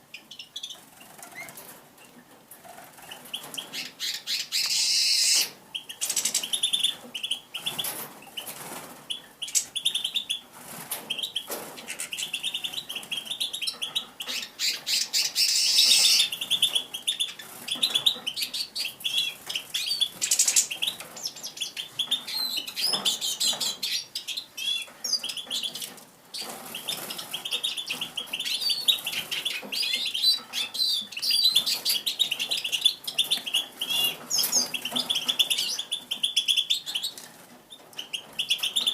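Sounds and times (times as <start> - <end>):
grosbeak singing: 3.0 - 8.5, 11.1 - 37.2.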